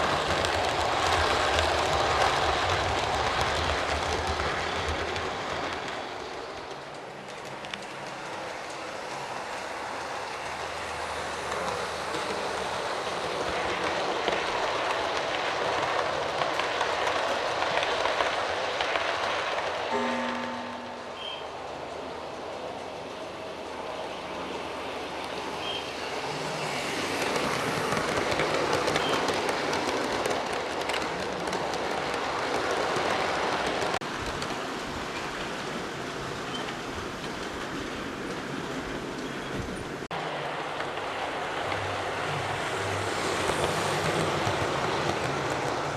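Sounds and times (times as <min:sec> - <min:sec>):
model train whirring on track: 0:00.0 - 0:19.9, 0:21.6 - 0:45.9.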